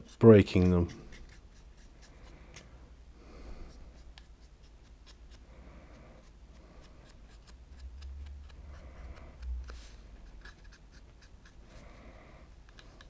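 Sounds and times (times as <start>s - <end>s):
paintbrush scratching on model: 0.0s - 2.8s, 3.6s - 11.8s.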